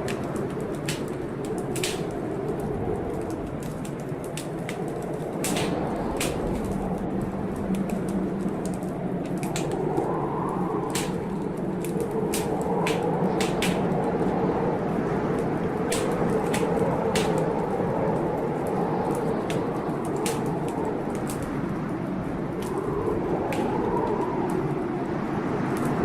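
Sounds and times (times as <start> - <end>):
heavy blizzard wind: 0.0 - 26.0
wood fire crackling and popping: 0.0 - 26.0.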